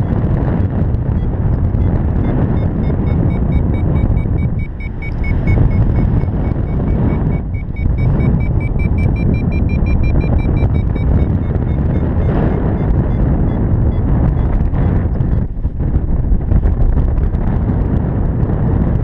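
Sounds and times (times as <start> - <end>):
variometer beeping: 0.0 - 16.4
wind rushing over microphone: 0.0 - 19.0.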